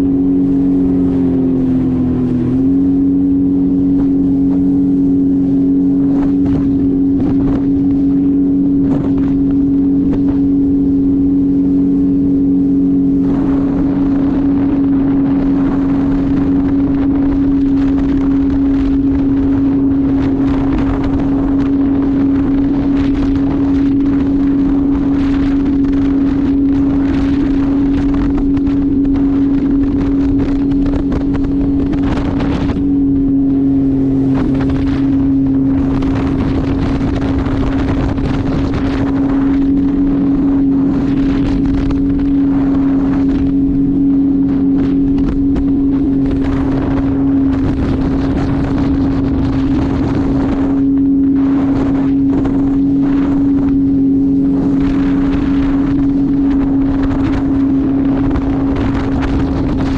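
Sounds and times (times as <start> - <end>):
jet ski engine running: 0.0 - 59.9
wind and water rushing: 0.0 - 59.9.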